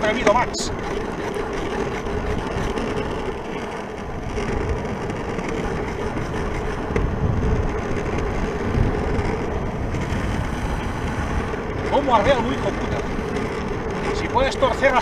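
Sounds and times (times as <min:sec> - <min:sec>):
wheels rolling over asphalt: 0:00.0 - 0:15.0
wind buffeting microphone: 0:00.0 - 0:15.0.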